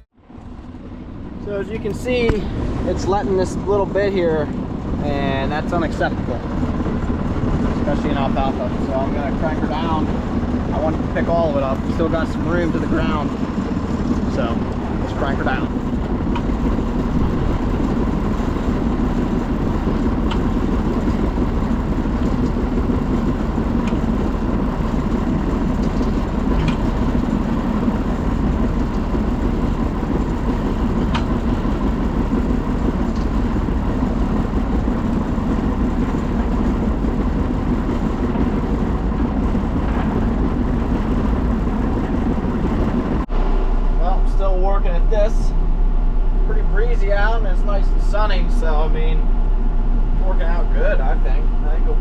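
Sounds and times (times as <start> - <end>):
tractor running under load: 0.0 - 52.0.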